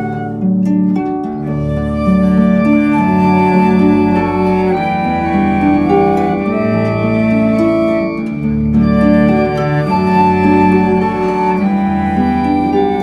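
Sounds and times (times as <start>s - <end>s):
chamber ensemble playing: 0.0s - 13.0s
plucked harp notes: 0.0s - 13.0s.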